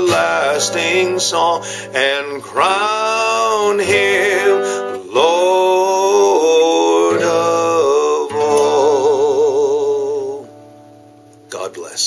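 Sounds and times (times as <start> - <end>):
man singing a hymn: 0.0 - 10.5
acoustic guitar: 0.0 - 12.0.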